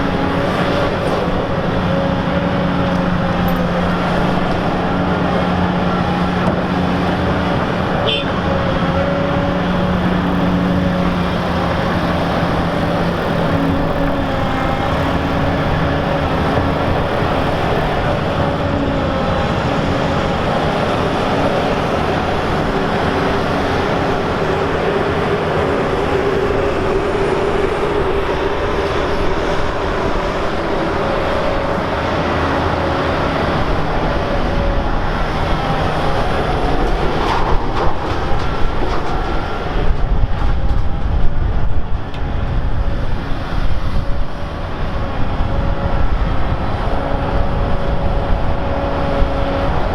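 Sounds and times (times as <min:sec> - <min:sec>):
machinery knocks and rumbles: 0:00.0 - 0:44.0
excavator engine drone with whine: 0:00.0 - 0:49.9.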